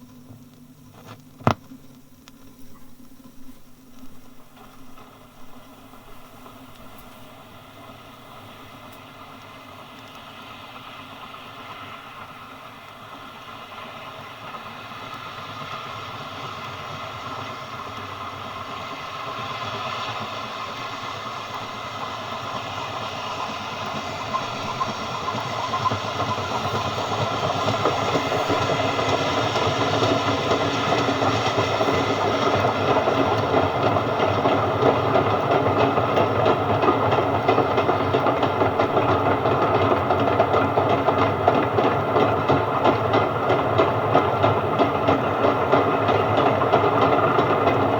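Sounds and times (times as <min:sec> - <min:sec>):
train approaching: 0:02.7 - 0:47.9
wheels clattering on rails: 0:04.0 - 0:47.9.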